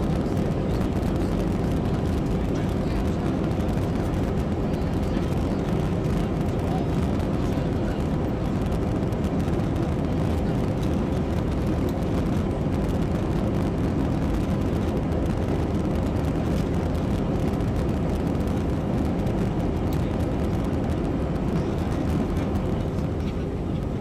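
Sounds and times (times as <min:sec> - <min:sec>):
jet engines roaring at take-off: 0:00.0 - 0:24.0.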